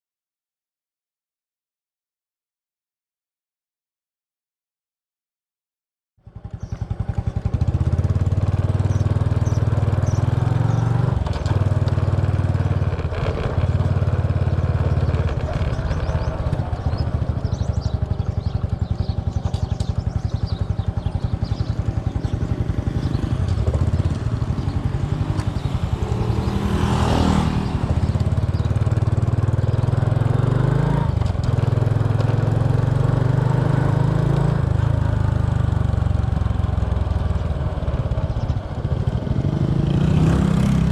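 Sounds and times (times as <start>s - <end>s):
motorbike engine running: 6.2s - 40.9s.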